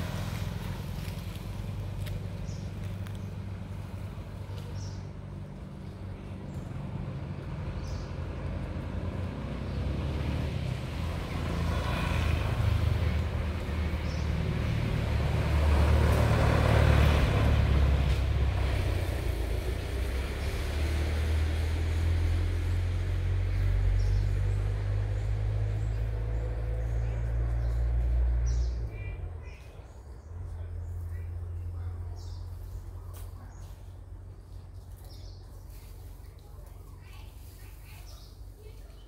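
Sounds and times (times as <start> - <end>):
vehicle engine humming: 0.0 - 39.0
vehicle passing by: 0.0 - 39.0.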